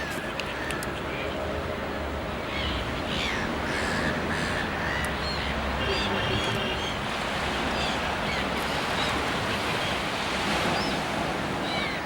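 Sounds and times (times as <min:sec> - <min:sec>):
steady rushing outdoor noise: 0:00.0 - 0:12.0.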